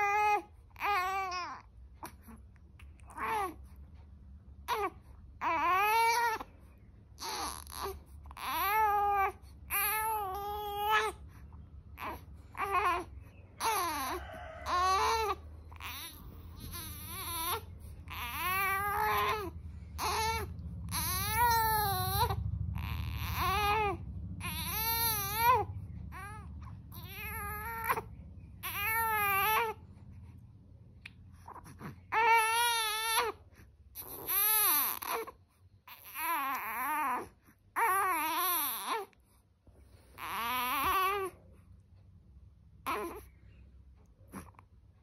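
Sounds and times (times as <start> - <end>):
newborn baby crying: 0.0 - 2.4, 3.0 - 3.7, 4.6 - 30.3, 31.4 - 39.2, 40.1 - 41.5, 42.8 - 43.6.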